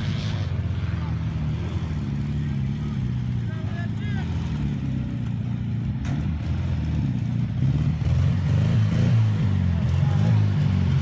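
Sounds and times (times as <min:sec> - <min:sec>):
race vehicle engine revving: 0:00.0 - 0:11.0.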